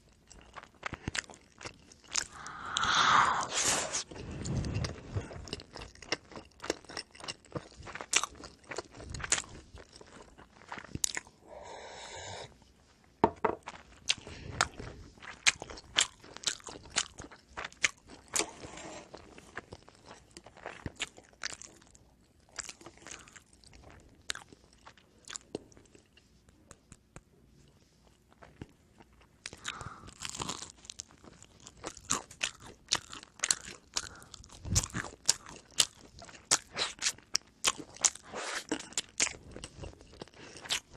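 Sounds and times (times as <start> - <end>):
person chewing crunchy bread: 0.0 - 12.9, 13.5 - 40.9.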